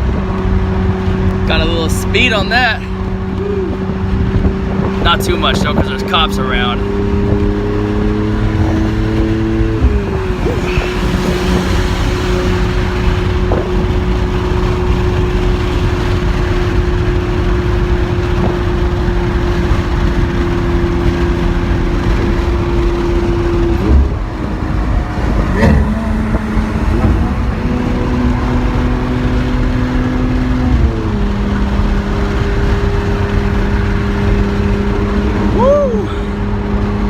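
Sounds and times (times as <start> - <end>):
car engine cruising: 0.0 - 37.0
road noise: 0.0 - 37.0.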